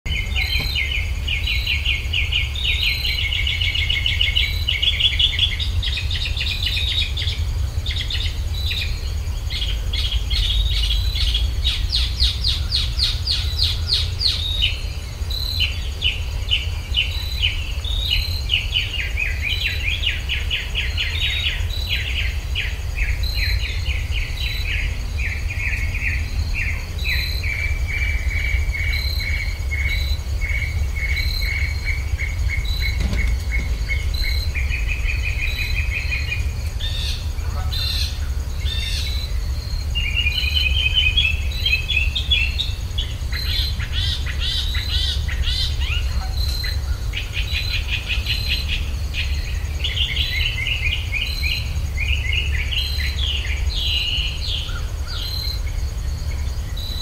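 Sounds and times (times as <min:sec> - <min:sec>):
songbirds singing: 0:00.0 - 0:57.0
steady low rumble: 0:00.0 - 0:57.0
faint high insect hum: 0:00.1 - 0:57.0.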